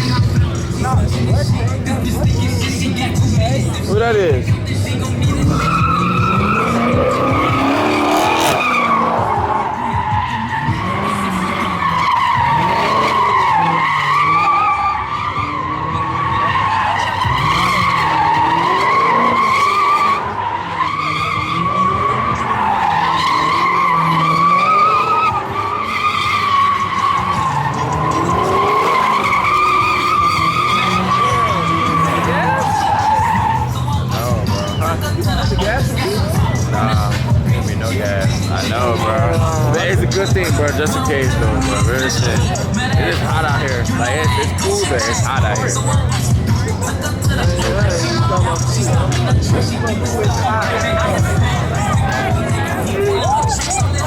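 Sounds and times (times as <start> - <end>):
car engine revving: 0.0 - 54.0
car tyres screeching: 0.0 - 54.0.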